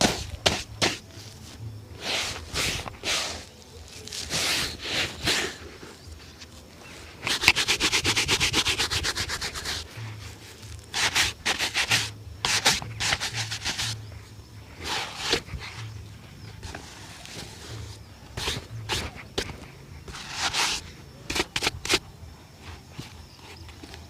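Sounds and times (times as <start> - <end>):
shoe leather being rubbed: 0.0 - 14.0, 14.8 - 22.0.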